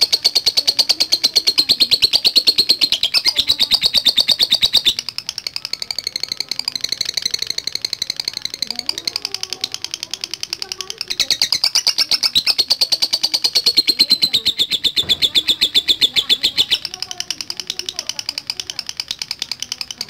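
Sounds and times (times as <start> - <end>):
lovebird chattering: 0.0 - 20.0.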